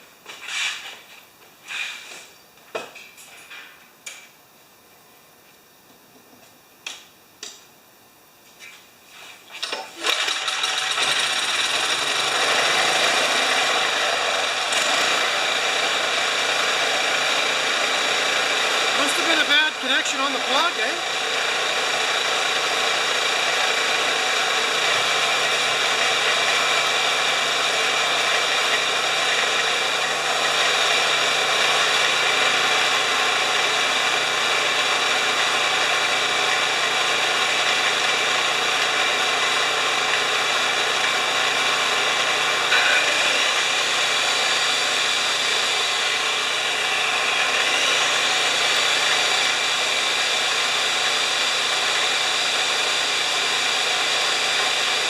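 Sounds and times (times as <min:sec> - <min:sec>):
generator engine running: 0:10.0 - 0:55.0.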